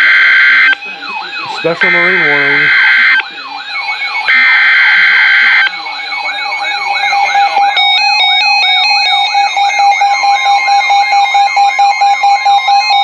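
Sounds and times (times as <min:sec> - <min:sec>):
steady alarm tone: 0:00.0 - 0:13.0.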